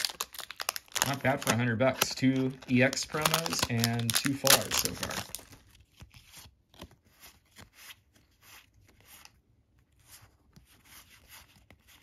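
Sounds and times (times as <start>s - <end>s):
cards swishing and rubbing: 1.2s - 12.0s.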